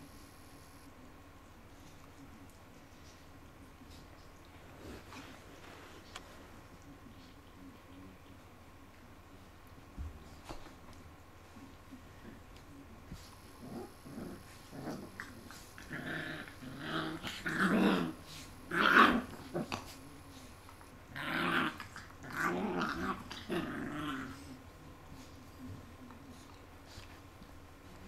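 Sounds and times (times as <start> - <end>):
puppies growling in play: 2.8 - 28.0.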